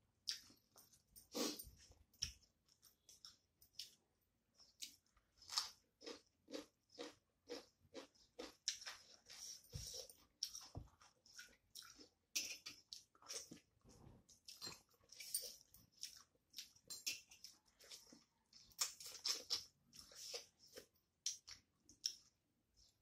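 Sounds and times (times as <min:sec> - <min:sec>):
wet chewing and lip-smacking: 0:00.2 - 0:04.0, 0:04.6 - 0:13.7, 0:14.3 - 0:22.4.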